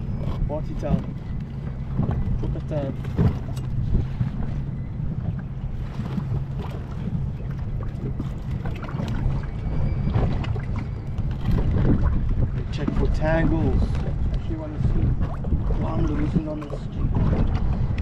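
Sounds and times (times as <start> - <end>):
steady low rumble: 0.0 - 18.0
wind buffeting microphone: 0.0 - 18.0.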